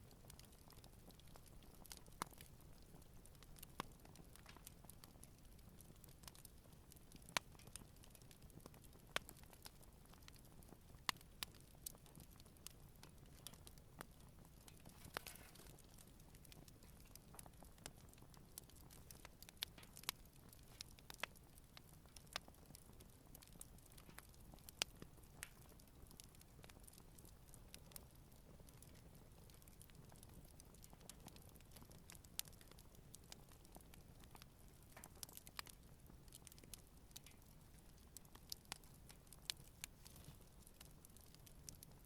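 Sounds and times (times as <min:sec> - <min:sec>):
campfire crackling and popping: 0:00.0 - 0:42.0
low fire hiss: 0:00.0 - 0:42.0.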